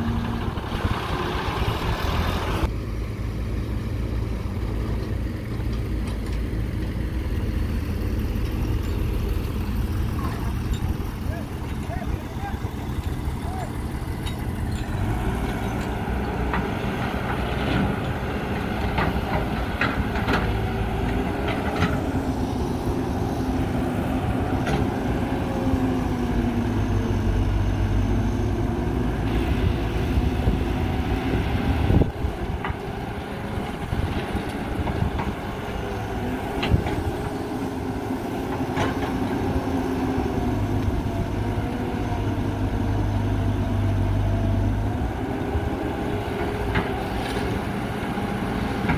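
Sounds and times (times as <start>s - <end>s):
excavator diesel engine: 0.0s - 48.9s.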